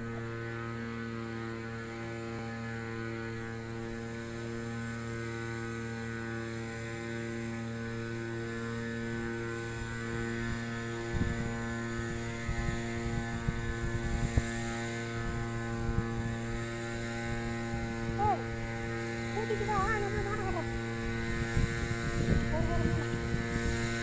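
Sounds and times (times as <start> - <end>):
small engine humming: 0.0 - 24.0.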